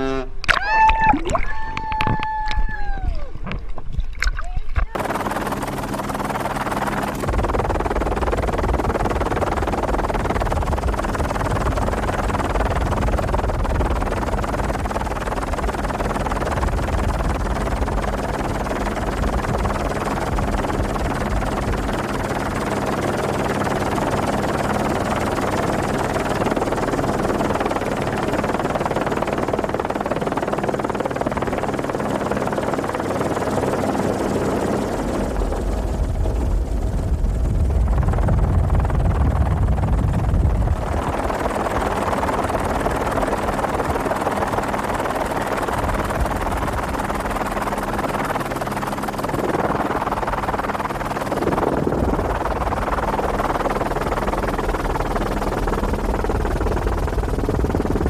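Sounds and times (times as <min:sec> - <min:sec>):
wind: 0:00.0 - 0:58.0
helicopter rotor and engine: 0:04.8 - 0:58.0.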